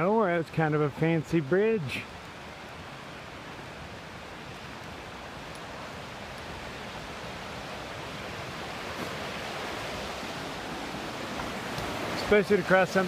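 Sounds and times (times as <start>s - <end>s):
water rushing over boulders: 0.0s - 13.0s.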